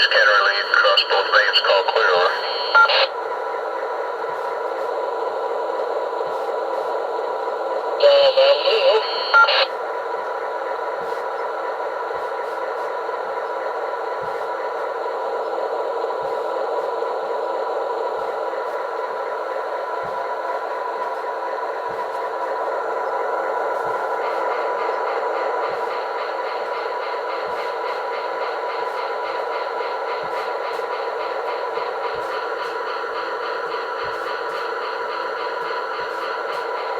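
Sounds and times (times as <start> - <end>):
locomotive engine drone: 0.0 - 36.9.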